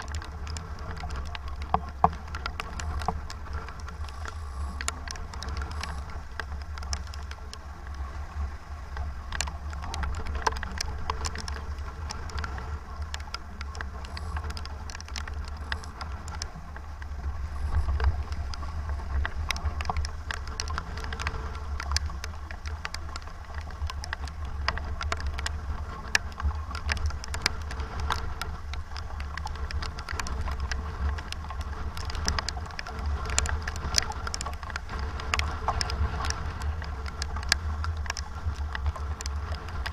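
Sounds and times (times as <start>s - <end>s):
rain ticking on microphone: 0.0s - 39.9s
wind rumbling on microphone: 0.0s - 39.9s.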